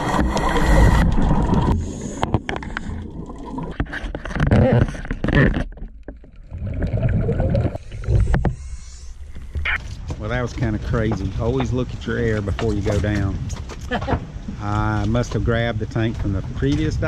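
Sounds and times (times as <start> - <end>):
underwater bubbling and rushing: 0.0 - 17.0
water sloshing and splashing: 0.0 - 17.0.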